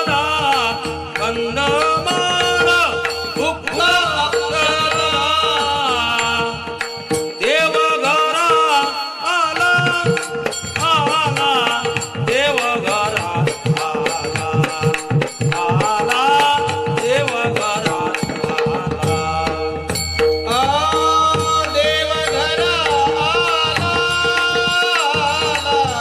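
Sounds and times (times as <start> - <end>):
person singing devotional melody: 0.0 - 26.0.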